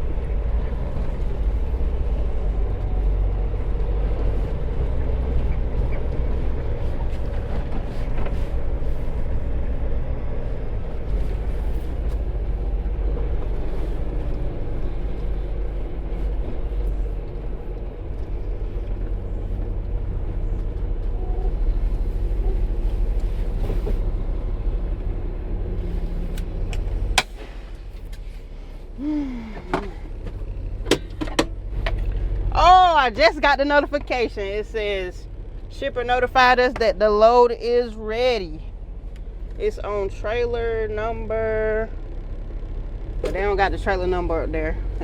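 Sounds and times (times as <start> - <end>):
truck diesel engine rumbling: 0.0 - 45.0.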